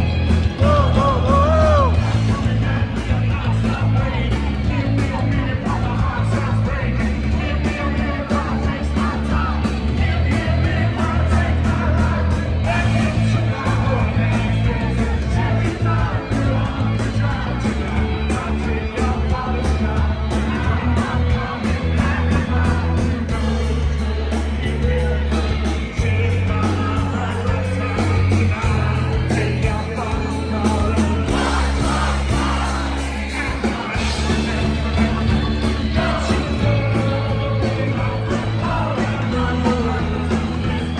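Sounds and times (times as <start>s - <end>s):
heavy bass guitar line: 0.0s - 40.9s
lead vocal: 0.0s - 40.9s
man singing and shouting: 0.0s - 40.9s
rock band playing live: 0.0s - 40.9s.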